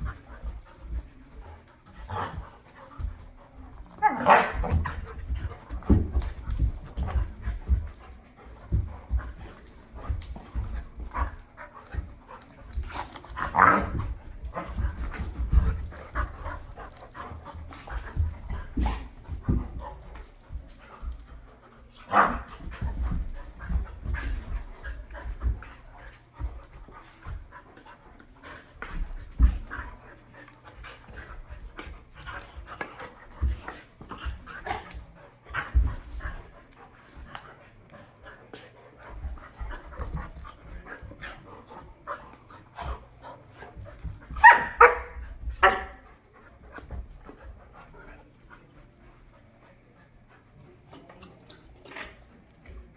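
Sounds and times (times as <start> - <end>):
dogs scuffling and thudding: 0.0 - 52.9.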